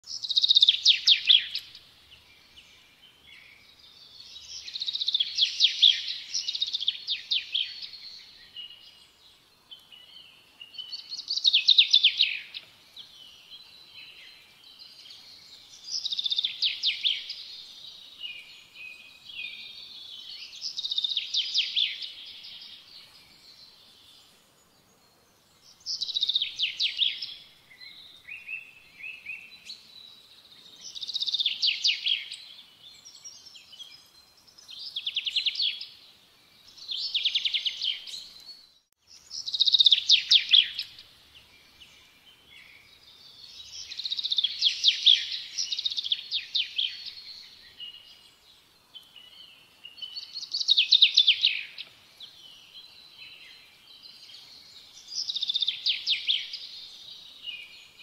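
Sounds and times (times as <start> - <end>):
bird singing trilled notes: 0.0 - 58.0.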